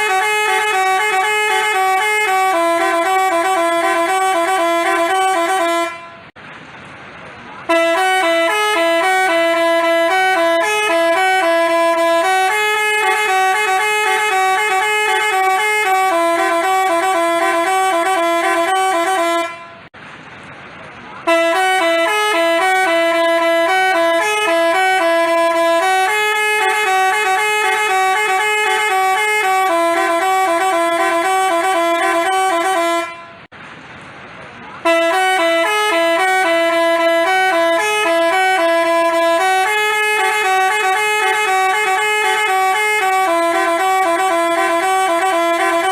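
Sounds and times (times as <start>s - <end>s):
musical bus horn melody: 0.0s - 6.4s, 7.6s - 20.0s, 21.2s - 33.5s, 34.8s - 45.9s.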